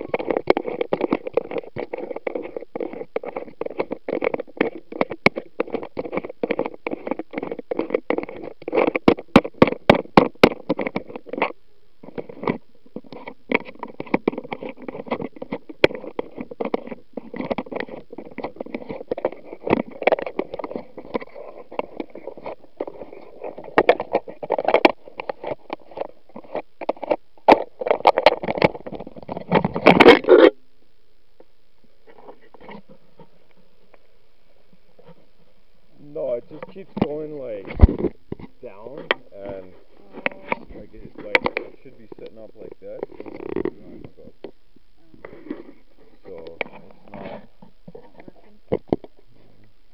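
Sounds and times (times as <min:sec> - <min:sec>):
sharp knocks and scrapes: 0:00.0 - 0:30.6, 0:32.0 - 0:34.1, 0:34.9 - 0:35.3, 0:36.0 - 0:44.6, 0:45.2 - 0:49.6.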